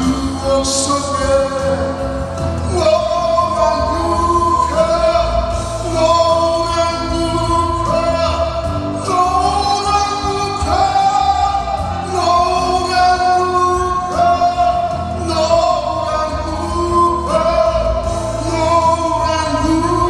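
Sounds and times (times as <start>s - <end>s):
man singing into microphone: 0.0s - 20.0s.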